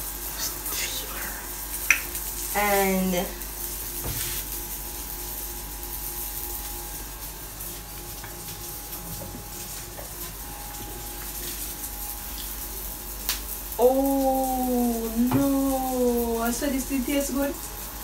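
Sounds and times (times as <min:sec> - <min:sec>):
patty sizzling in a pan: 0:00.0 - 0:18.0.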